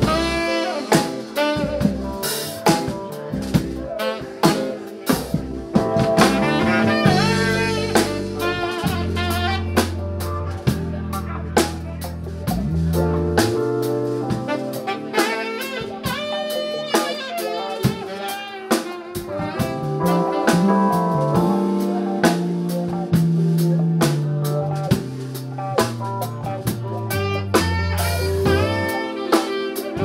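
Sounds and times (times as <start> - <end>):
bass line: 0.0 - 30.0
drum kit snare and cymbals: 0.0 - 30.0
electric guitar: 0.0 - 30.0
electric keyboard: 0.0 - 30.0
saxophone: 0.0 - 30.0.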